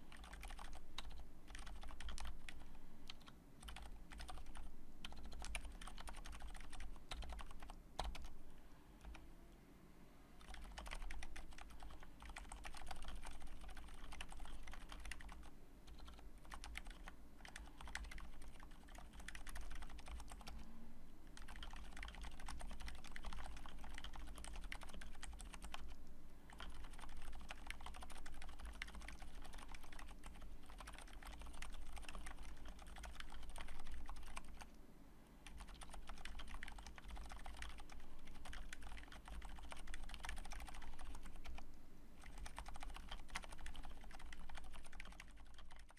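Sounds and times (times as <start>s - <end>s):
mechanical keyboard typing: 0.0s - 8.4s, 9.0s - 9.2s, 10.4s - 20.6s, 21.4s - 34.7s, 35.4s - 41.6s, 42.2s - 45.9s.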